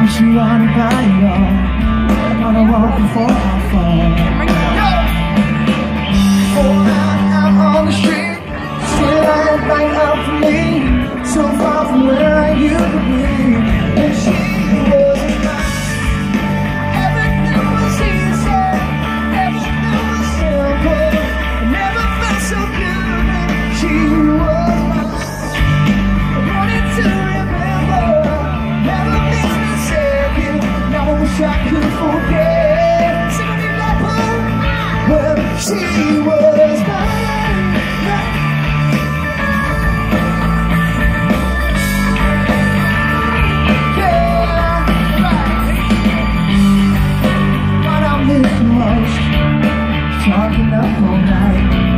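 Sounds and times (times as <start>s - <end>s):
man singing: 0.0s - 5.3s, 6.1s - 51.9s
live pop-rock band: 0.0s - 51.9s.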